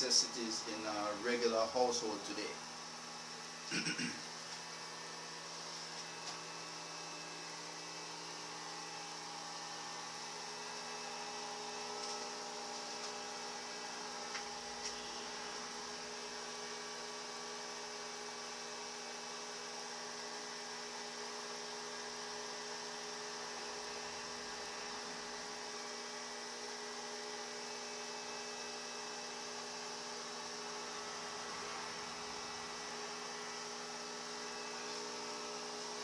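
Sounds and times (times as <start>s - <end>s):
electrical hum of inverter: 0.0s - 36.0s.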